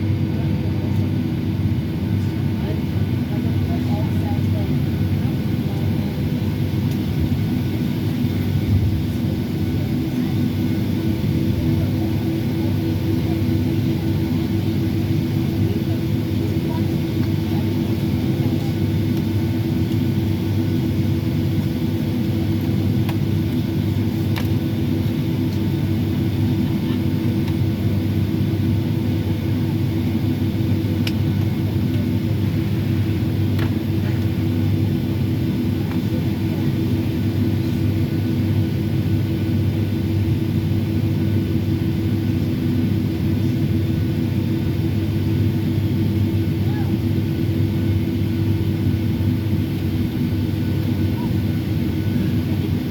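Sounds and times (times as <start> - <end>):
airliner cabin engine rumble: 0.0 - 52.9
constant hum: 0.0 - 52.9.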